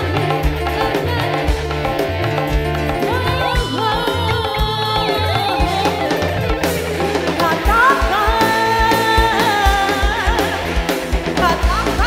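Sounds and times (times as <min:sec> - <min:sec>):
bass guitar: 0:00.0 - 0:12.0
drum kit beat: 0:00.0 - 0:12.0
electric guitar: 0:00.0 - 0:12.0
woman singing: 0:00.0 - 0:12.0.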